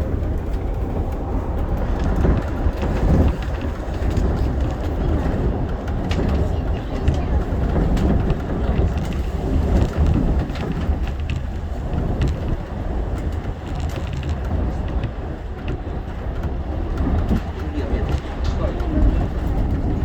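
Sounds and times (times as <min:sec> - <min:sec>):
monorail train rumble: 0:00.0 - 0:20.0.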